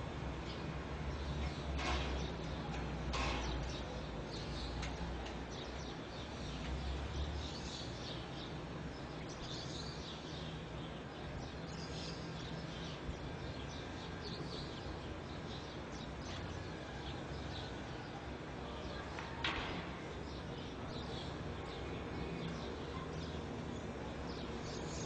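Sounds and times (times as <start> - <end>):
birds chirping: 0.4 - 25.0.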